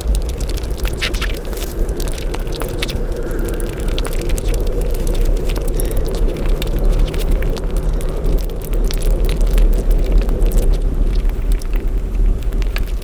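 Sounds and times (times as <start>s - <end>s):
rapid chewing clicks and smacks: 0.0s - 13.0s
steady low rumble: 0.0s - 13.0s.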